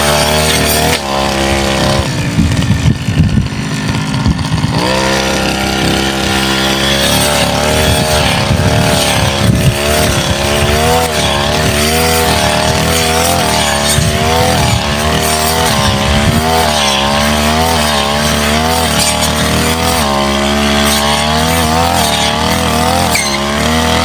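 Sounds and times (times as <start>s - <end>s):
brush cutter engine cutting scrub: 0.0s - 24.0s.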